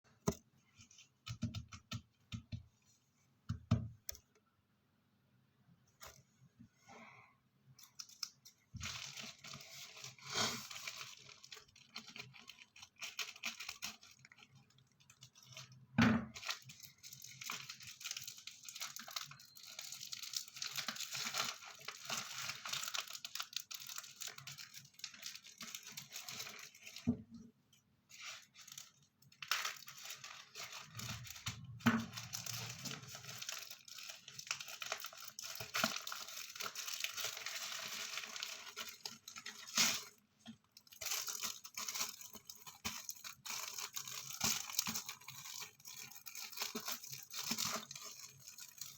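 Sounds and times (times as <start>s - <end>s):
packaging rustling and crinkling: 7.8s - 27.4s, 28.1s - 48.9s.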